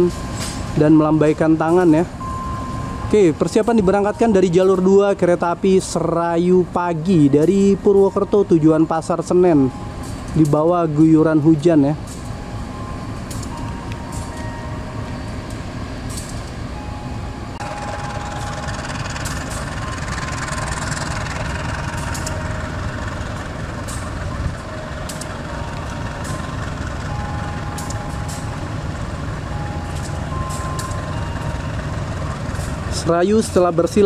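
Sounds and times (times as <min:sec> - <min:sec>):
locomotives idling: 0:00.0 - 0:34.0.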